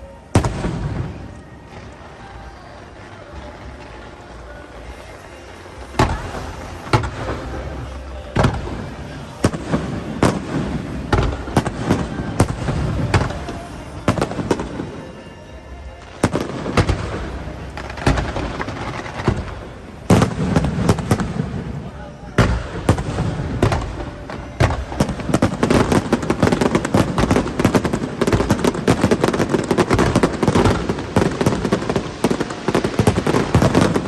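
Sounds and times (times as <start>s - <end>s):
fireworks bursting with loud bangs: 0.0s - 34.0s.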